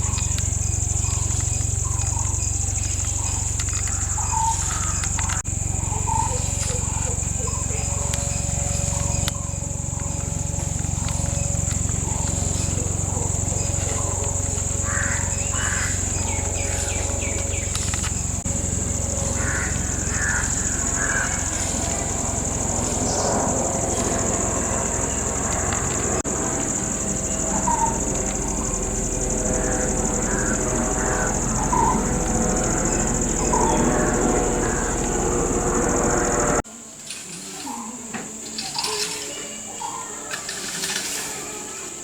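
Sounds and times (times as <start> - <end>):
low steady hum: 0.0 - 36.6
insect chorus: 0.0 - 42.0.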